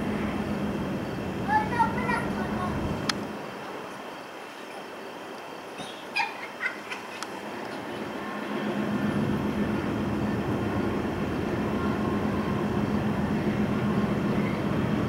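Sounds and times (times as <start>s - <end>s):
distant engine rumbling: 0.0s - 3.9s, 5.7s - 15.0s.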